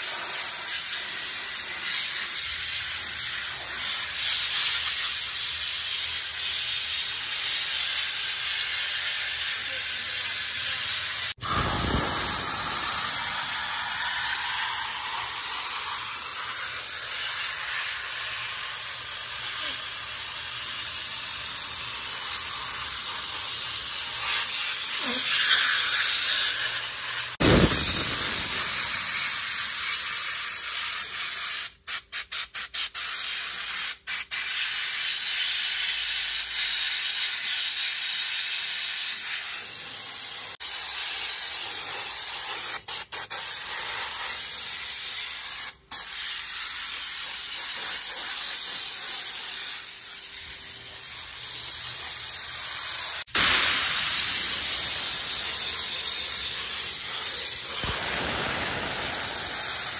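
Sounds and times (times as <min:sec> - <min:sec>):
steam jet hissing: 0:00.0 - 0:59.9.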